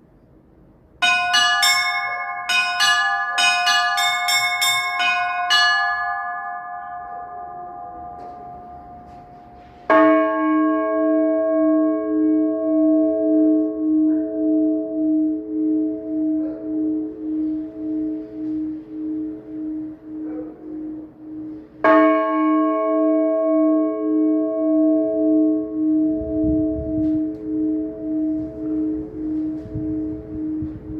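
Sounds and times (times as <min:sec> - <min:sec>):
small high-pitched bells ringing: 0:01.0 - 0:11.2, 0:12.0 - 0:30.9
large low bell humming: 0:01.0 - 0:30.9.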